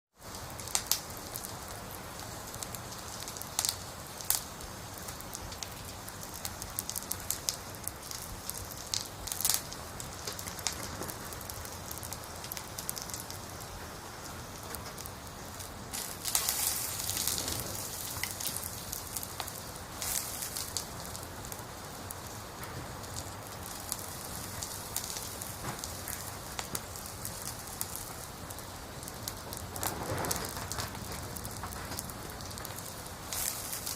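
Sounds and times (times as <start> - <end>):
steady hiss: 0.2 - 33.9.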